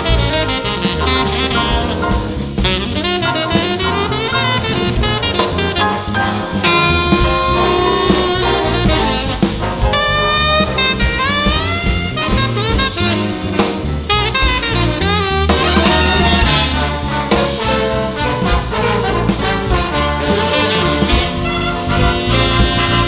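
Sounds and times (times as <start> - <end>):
drums: 0.0 - 23.0
horn playing jazz melody: 0.0 - 23.0.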